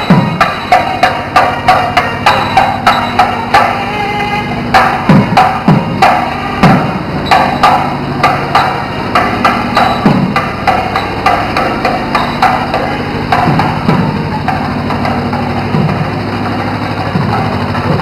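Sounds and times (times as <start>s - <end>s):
deep drum strokes dropping in pitch: 0.0s - 18.0s
sharp drum strokes: 0.0s - 18.0s
steady low hum: 0.0s - 18.0s.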